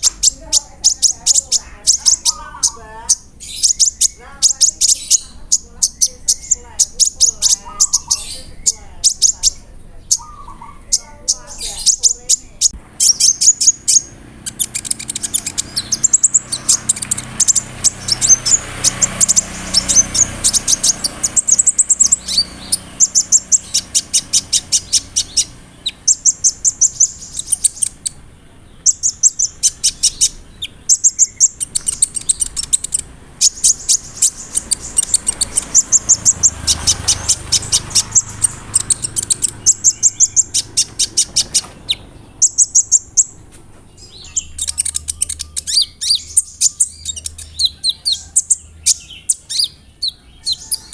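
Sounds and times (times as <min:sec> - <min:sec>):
bird singing high ticking notes: 0:00.0 - 0:50.9.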